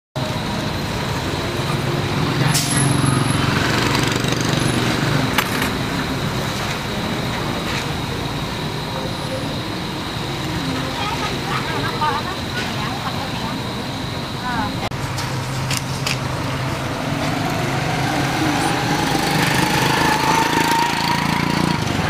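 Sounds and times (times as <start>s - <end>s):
street traffic: 0.2s - 22.0s
vehicle engine hum: 0.2s - 22.0s.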